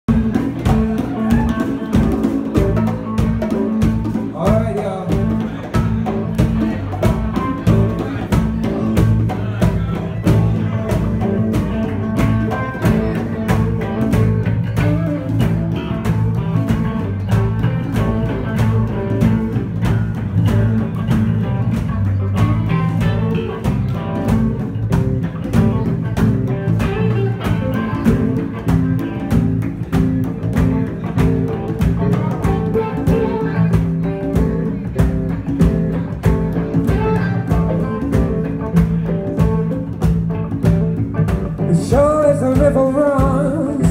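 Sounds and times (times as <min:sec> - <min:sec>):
bass: 0:00.0 - 0:43.9
drums: 0:00.0 - 0:43.9
guitar: 0:00.0 - 0:43.9.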